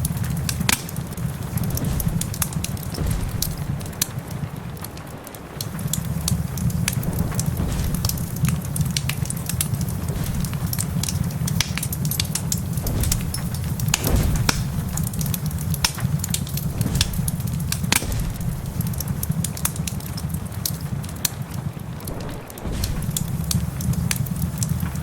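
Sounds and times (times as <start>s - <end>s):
sharp pops of burning wood: 0.0s - 25.0s
wood fire crackling: 0.0s - 25.0s.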